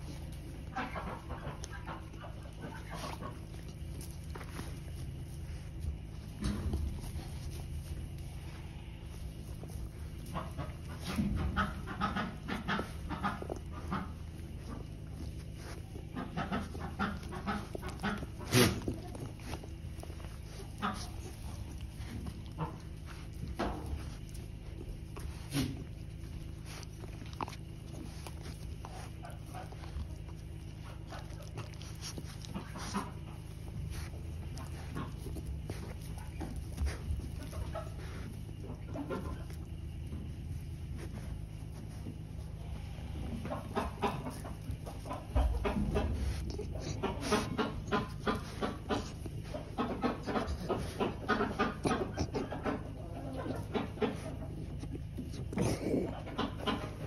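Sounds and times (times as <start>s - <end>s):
puppy panting: 0.0s - 42.8s, 43.4s - 57.0s
low hum: 0.0s - 57.0s
steady low rumble: 0.0s - 57.0s.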